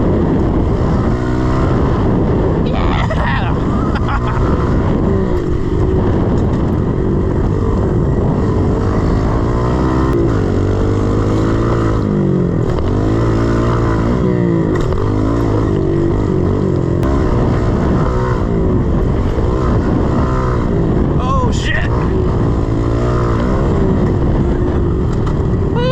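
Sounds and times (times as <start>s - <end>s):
motorbike engine revving: 0.0s - 25.9s.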